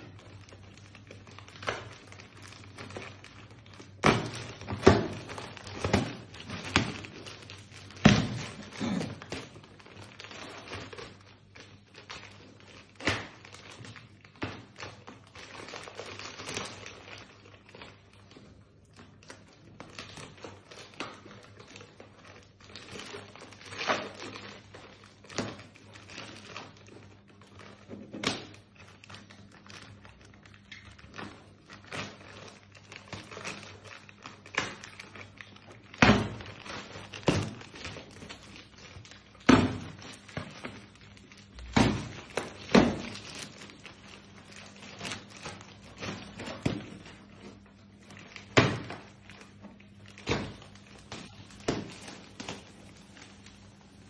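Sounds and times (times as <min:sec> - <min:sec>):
plastic wrap crackling and snapping: 0:00.0 - 0:54.0.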